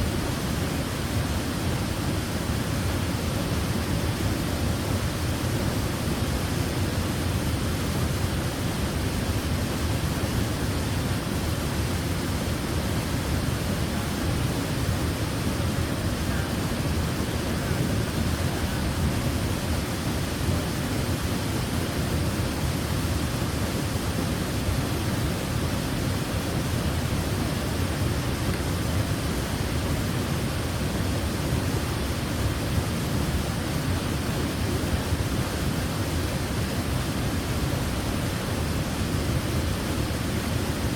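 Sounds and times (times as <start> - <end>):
waterfall splashing: 0.1 - 40.9.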